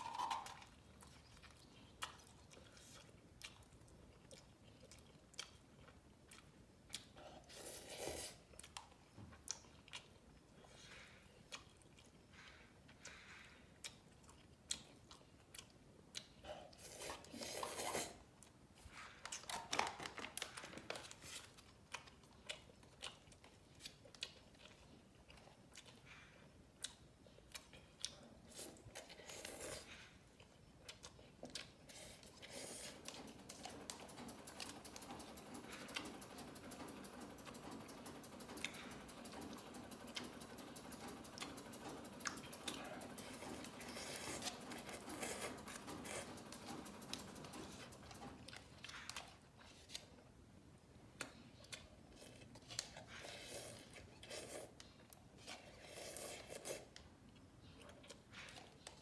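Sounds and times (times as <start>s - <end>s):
slurping and chewing: 0.0s - 36.8s, 37.5s - 50.2s, 51.1s - 59.0s
faint steady background noise: 0.0s - 59.0s.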